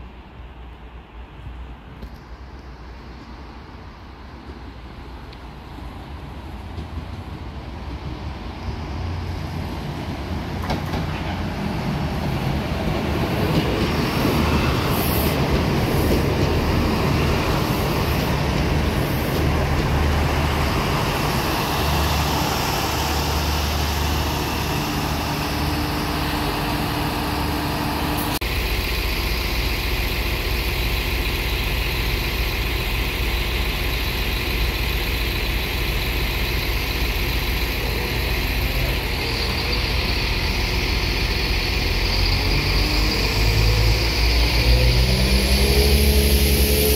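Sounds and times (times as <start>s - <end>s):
diesel train rumbling: 0.0s - 46.9s
train engines idling: 0.1s - 46.9s
train braking: 9.0s - 46.9s.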